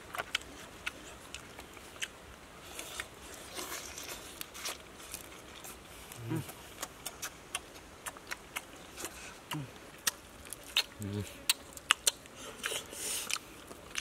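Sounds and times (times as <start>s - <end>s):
people chewing with lip smacks: 0.0s - 14.0s.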